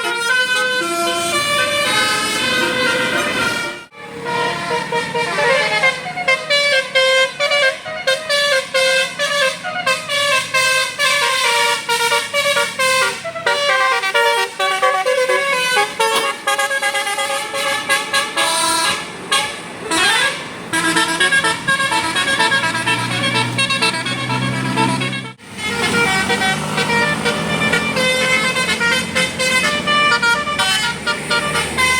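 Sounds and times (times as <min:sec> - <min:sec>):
bus horn playing melody: 0:00.0 - 0:31.9.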